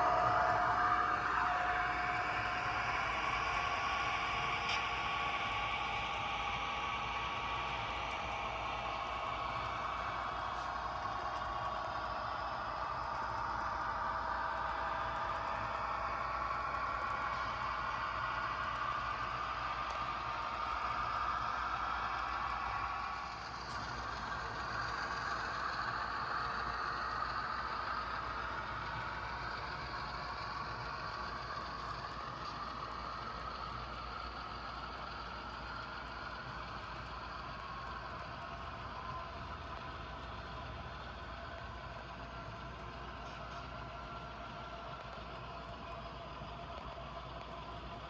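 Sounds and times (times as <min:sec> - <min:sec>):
model train whirring: 0:00.0 - 0:48.0.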